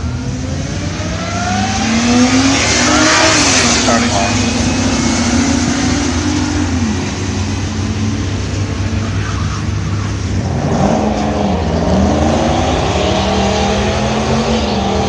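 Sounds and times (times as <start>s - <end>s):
car engine revving: 0.0s - 15.0s
drag racing car engines droning: 0.0s - 15.0s.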